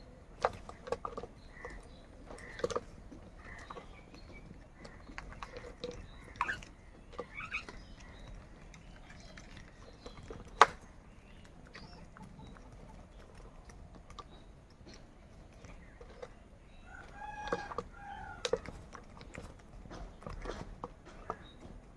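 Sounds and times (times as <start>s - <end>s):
crows tapping and clicking: 0.0s - 21.9s.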